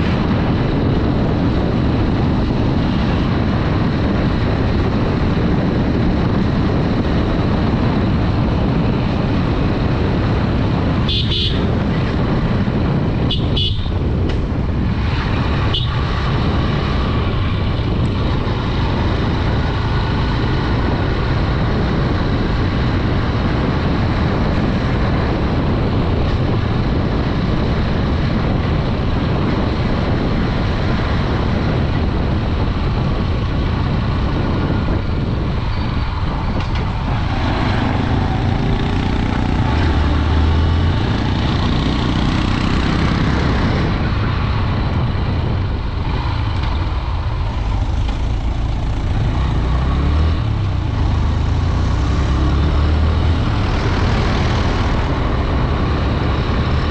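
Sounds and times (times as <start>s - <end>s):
motorcycle engine running: 0.0s - 56.9s
wind noise on microphone: 0.0s - 56.9s.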